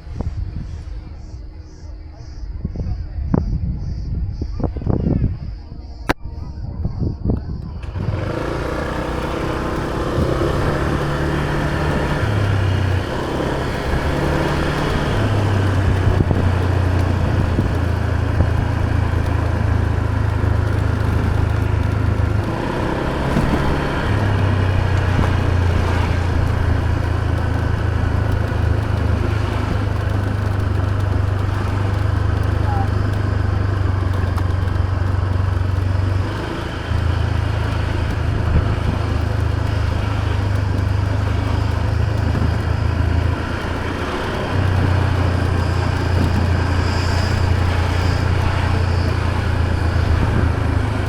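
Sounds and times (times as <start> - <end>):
wind and road noise: 0.0 - 51.0
motor scooter engine running: 4.8 - 51.0.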